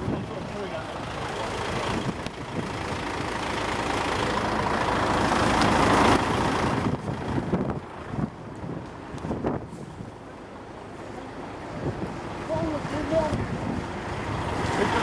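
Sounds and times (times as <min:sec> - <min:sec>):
heavy lorry engine running: 0:00.0 - 0:15.0.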